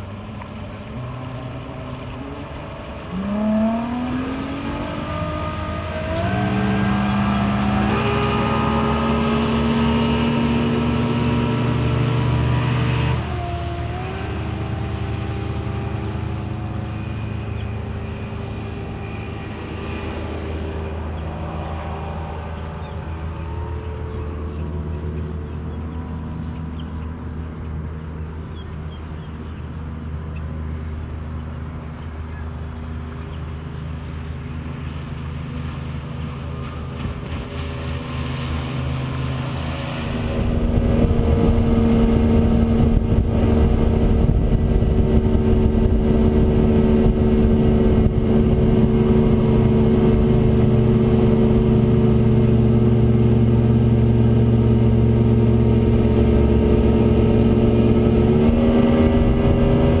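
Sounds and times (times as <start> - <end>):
outboard motor running: 0.0 - 60.0.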